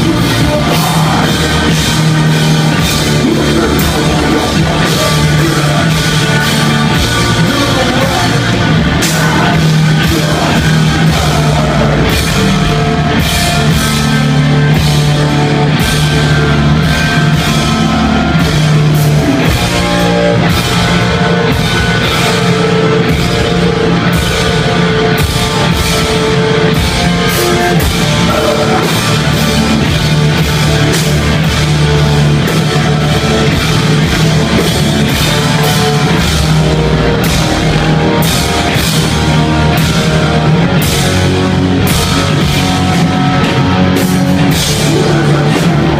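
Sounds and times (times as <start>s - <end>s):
distorted electric guitars: 0.0s - 45.9s.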